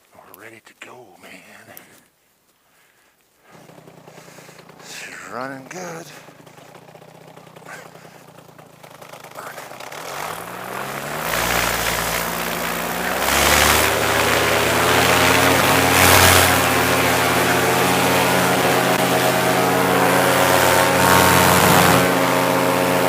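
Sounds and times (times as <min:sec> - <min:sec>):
paramotor engine and propeller revving: 0:03.5 - 0:23.0.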